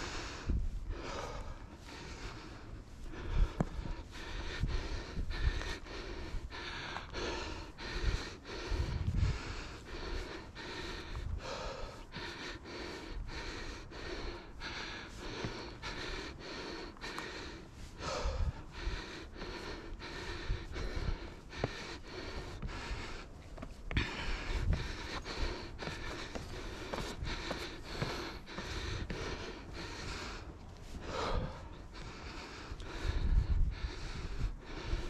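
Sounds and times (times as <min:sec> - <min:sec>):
heavy breathing through mask: 0:00.0 - 0:35.0.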